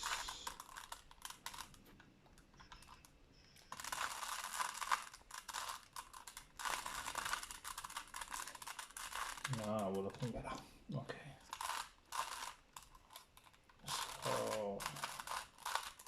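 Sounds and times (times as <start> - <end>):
puzzle cube clicking as layers twist: 0.0 - 10.4, 11.5 - 16.0.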